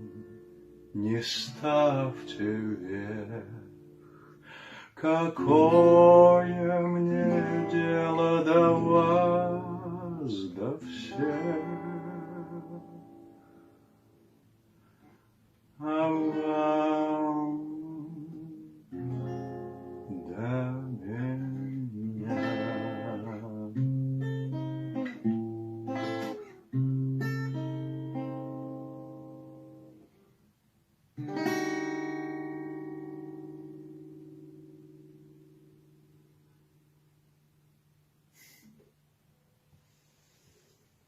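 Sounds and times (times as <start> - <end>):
acoustic guitar playing: 0.0 - 30.4, 31.1 - 38.8.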